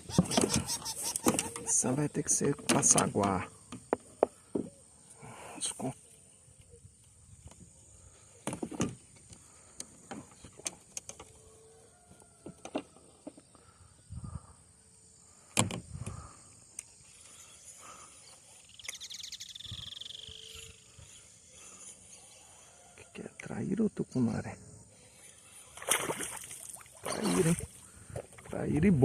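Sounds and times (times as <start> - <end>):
crickets droning: 0.0 - 29.0.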